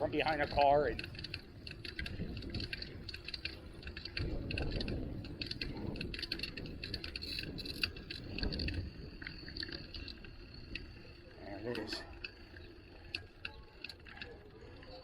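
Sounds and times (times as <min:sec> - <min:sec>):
bicycle rattling and clicking: 0:00.0 - 0:15.0
wind and road noise rumble: 0:00.0 - 0:15.0.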